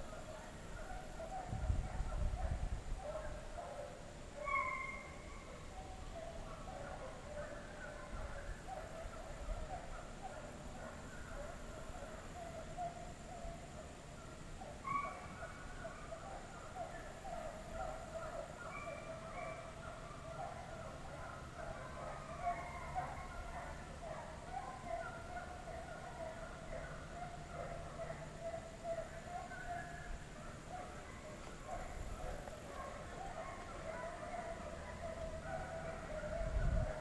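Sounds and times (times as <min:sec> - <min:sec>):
distant hounds baying: 0:00.0 - 0:37.0
dogs yelping: 0:00.1 - 0:37.0.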